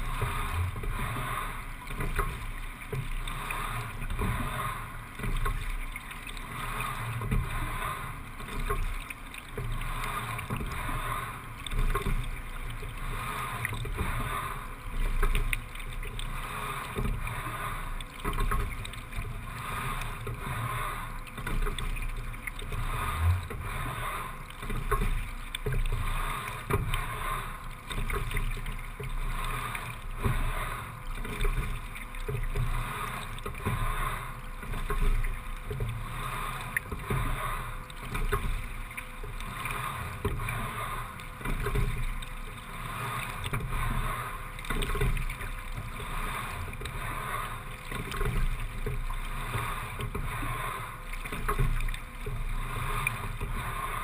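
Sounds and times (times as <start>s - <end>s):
oar strokes in water: 0.0s - 54.0s
water washing along hull: 0.0s - 54.0s.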